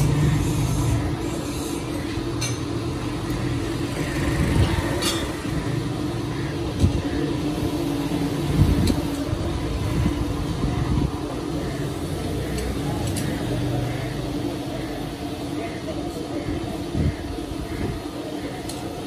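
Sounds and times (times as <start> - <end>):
low mechanical hum and rumble: 0.0 - 19.0.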